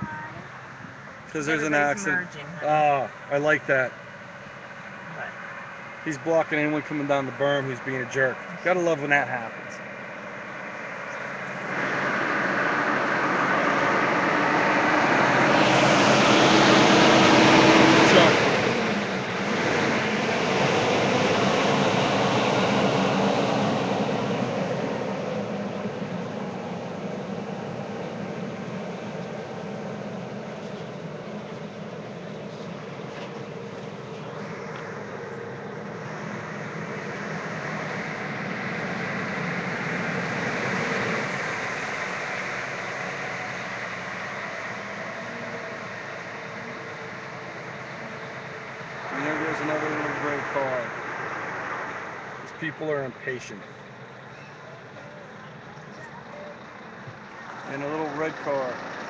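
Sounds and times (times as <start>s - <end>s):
road and engine noise inside car: 0.0s - 59.0s.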